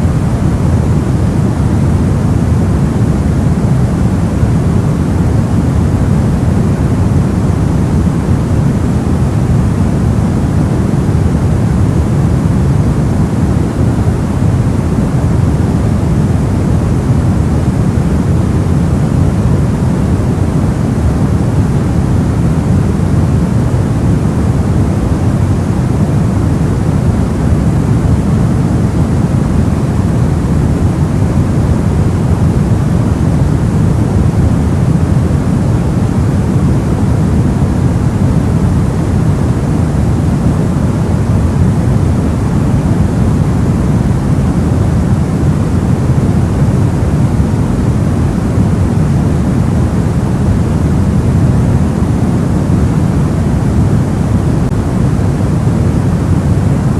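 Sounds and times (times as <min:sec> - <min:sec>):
soft white noise: 0:00.0 - 0:56.9.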